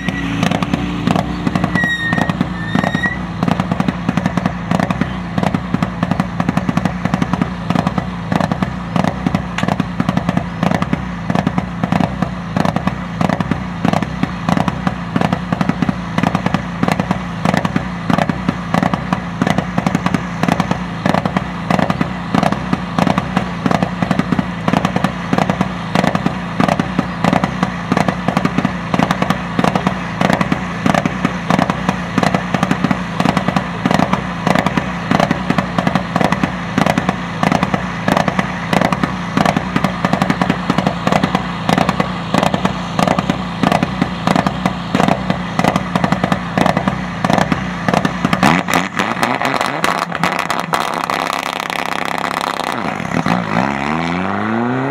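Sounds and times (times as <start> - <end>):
car engine idling: 0.0 - 53.5
exhaust popping and crackling: 0.0 - 54.9.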